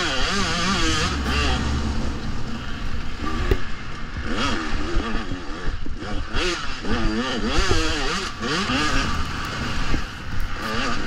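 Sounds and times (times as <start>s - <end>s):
dirt bike engine revving: 0.0s - 11.0s
wind rumble on camera: 0.0s - 11.0s.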